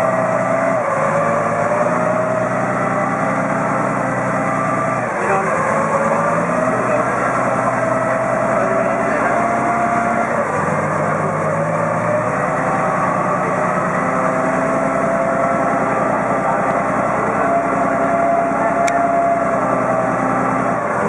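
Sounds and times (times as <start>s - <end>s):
ferry engine running: 0.0s - 21.0s.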